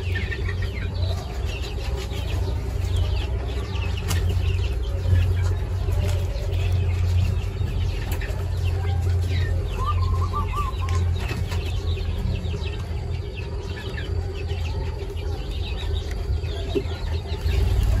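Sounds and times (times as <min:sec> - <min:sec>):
quail chirping: 0:00.0 - 0:18.0.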